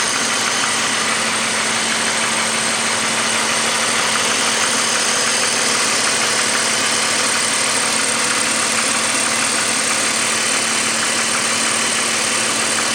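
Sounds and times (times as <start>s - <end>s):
car engine idling: 0.0s - 12.9s
engine knocking: 0.0s - 12.9s.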